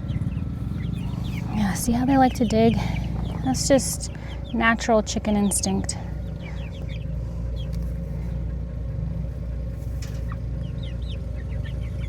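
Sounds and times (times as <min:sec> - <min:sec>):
chickens clucking: 0:00.0 - 0:12.0
steady low hum: 0:00.0 - 0:12.0.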